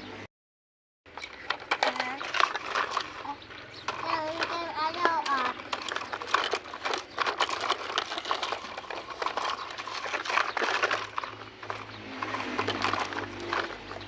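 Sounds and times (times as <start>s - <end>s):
clatter of clicks and crinkling: 1.1s - 14.0s.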